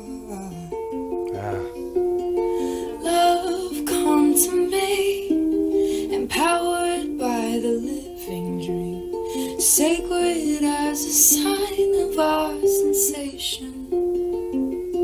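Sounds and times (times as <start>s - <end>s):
ukulele fingerpicked arpeggios: 0.0s - 15.0s.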